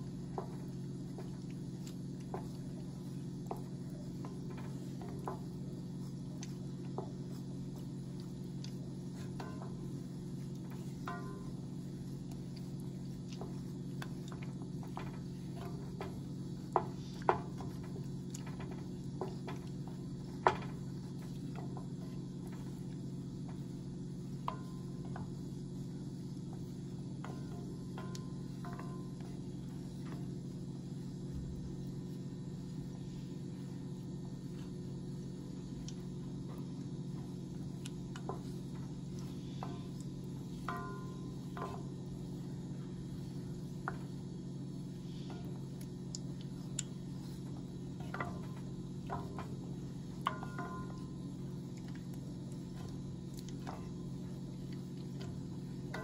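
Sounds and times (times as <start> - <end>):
wooden spoon stirring in saucepan: 0.0 - 31.3, 34.5 - 56.0
steady low hum: 0.0 - 56.0.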